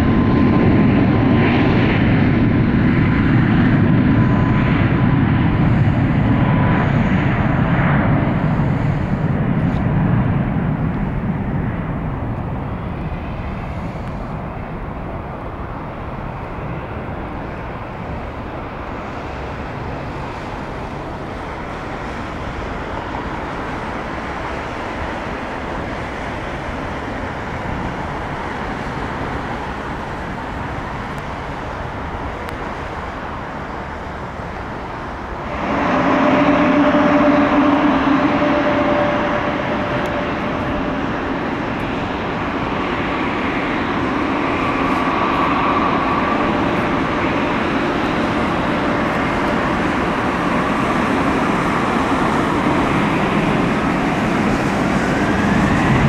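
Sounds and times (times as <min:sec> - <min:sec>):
jet engines roaring: 0:00.0 - 0:56.0
jet turbofans high whine: 0:00.0 - 0:56.0.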